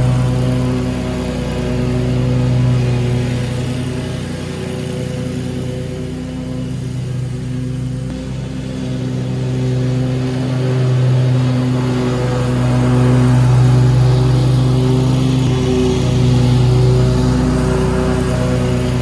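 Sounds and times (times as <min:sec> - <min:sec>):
lawn mower engine running: 0:00.0 - 0:19.0.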